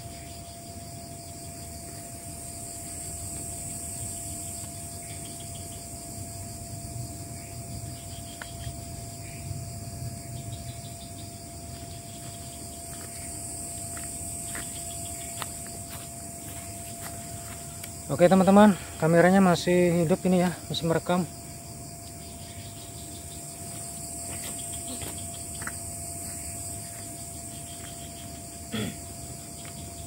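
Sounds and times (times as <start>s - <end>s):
constant thin tone: 0.0s - 30.0s
crickets and insects chirping: 0.0s - 30.0s.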